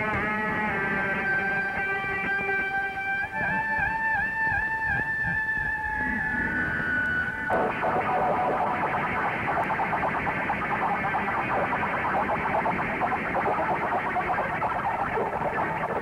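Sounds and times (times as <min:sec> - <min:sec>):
distorted experimental soundtrack: 0:00.0 - 0:16.0.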